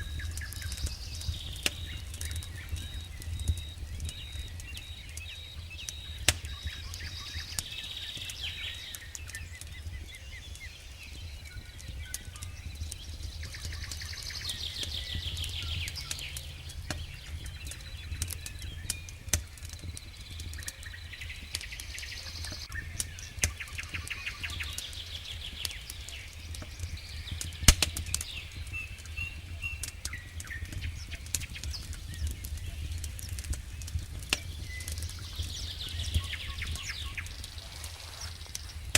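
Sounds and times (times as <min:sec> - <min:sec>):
bird singing trilled phrases: 0:00.0 - 0:38.9
wood fire crackling: 0:00.0 - 0:38.9.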